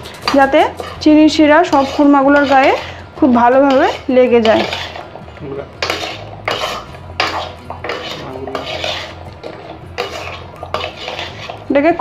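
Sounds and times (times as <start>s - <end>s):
metal spoon scraping frying pan: 0.0s - 12.0s.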